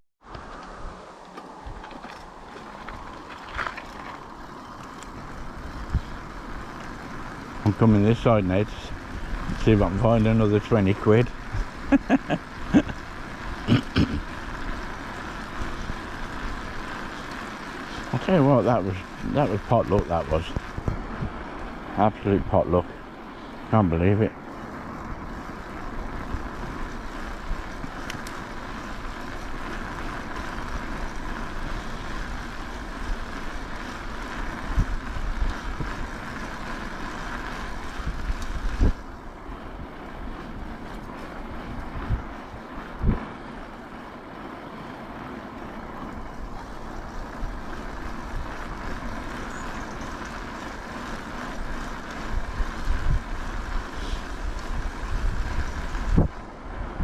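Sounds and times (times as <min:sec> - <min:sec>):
wind rushing over microphone: 0:00.2 - 0:57.0.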